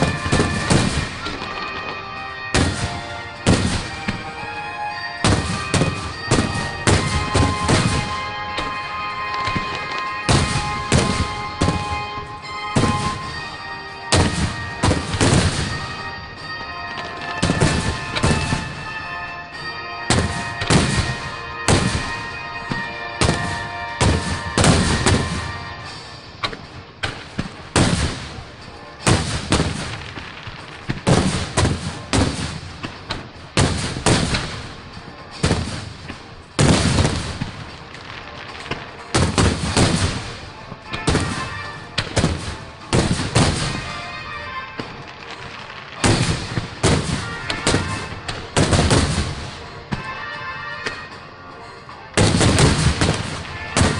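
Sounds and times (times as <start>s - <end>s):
fireworks bursting with echo: 0.0s - 53.9s.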